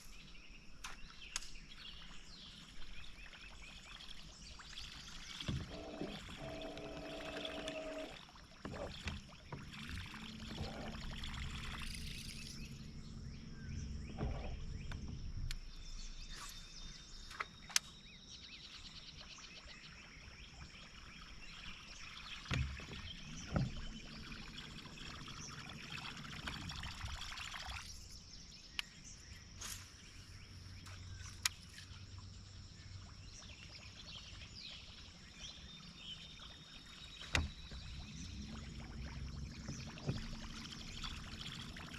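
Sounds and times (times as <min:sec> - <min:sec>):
outdoor noise on a boat: 0:00.0 - 0:41.9.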